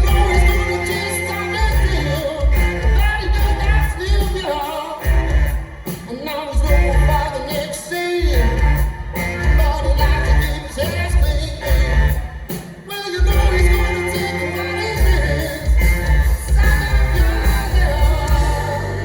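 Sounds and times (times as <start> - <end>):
heavy pulsing bass line: 0.0 - 7.6, 8.2 - 12.5, 13.2 - 19.0
live rock band playing: 0.0 - 19.0
person singing: 0.0 - 19.0.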